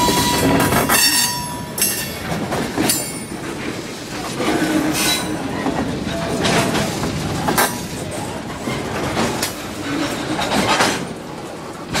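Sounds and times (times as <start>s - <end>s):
sharp train clanks: 0.0s - 12.0s
train wheels rumbling on rails: 0.0s - 12.0s.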